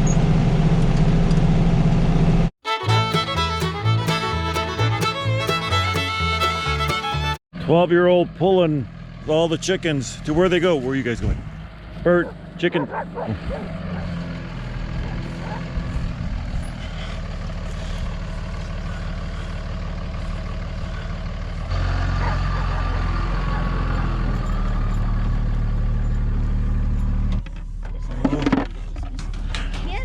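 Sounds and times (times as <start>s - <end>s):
vehicle engine running: 0.2s - 28.2s.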